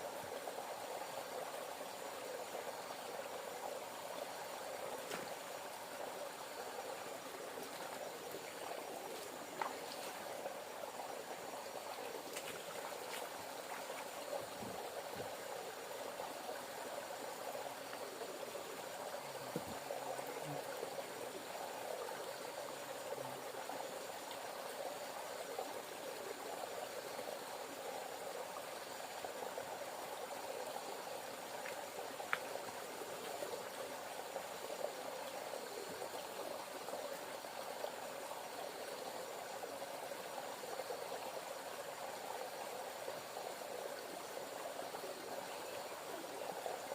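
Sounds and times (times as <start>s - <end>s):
flowing river water: 0.0s - 46.9s.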